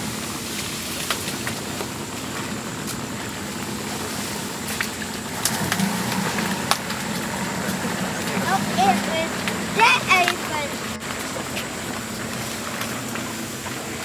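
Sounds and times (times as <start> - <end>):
motor idling: 0.0 - 14.0.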